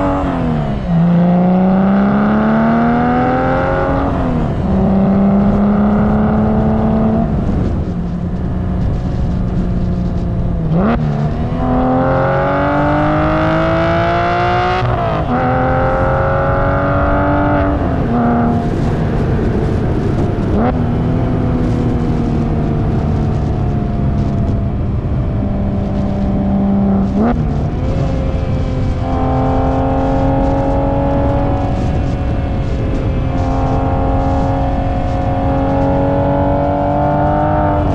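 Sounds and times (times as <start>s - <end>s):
sports car engine accelerating: 0.0s - 37.9s.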